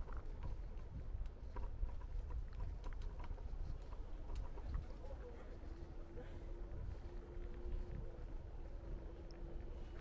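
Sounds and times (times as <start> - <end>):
low street rumble: 0.0 - 10.0.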